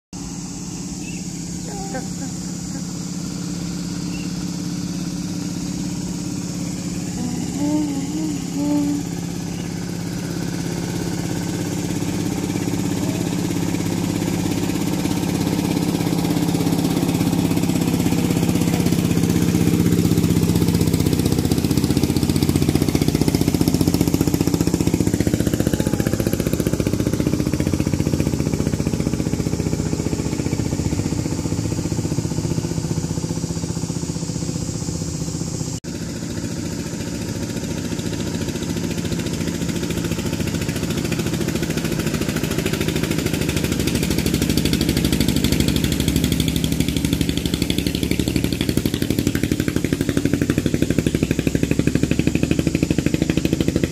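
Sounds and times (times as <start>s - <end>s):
diesel truck engine running: 0.1s - 53.9s.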